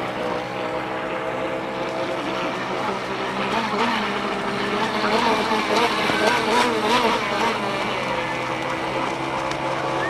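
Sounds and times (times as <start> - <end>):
model boat engine buzzing: 0.0 - 10.0.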